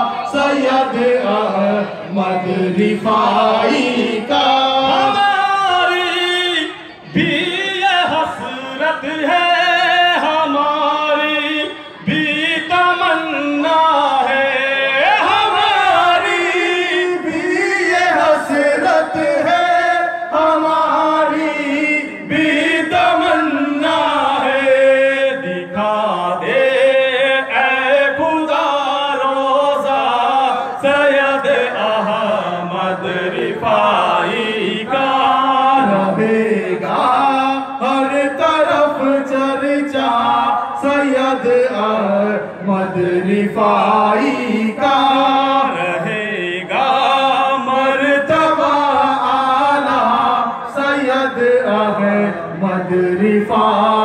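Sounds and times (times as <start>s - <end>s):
men singing devotional song: 0.0s - 54.0s.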